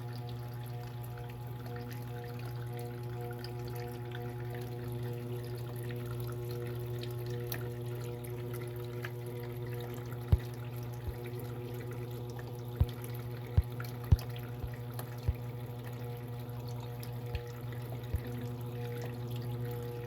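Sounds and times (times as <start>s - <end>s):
washing machine motor hum: 0.0s - 20.0s
water sloshing in washing machine: 0.0s - 20.0s.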